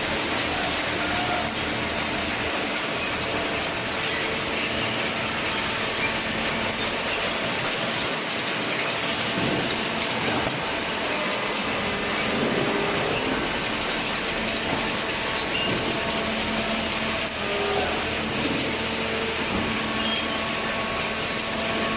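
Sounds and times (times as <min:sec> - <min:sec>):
hydraulic baler running: 0:00.0 - 0:21.9.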